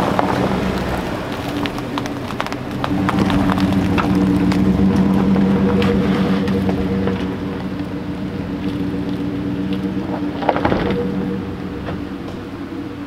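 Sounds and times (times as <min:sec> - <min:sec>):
pickup truck engine humming: 0:00.0 - 0:13.0
tyres crackling on icy ground: 0:00.0 - 0:13.0.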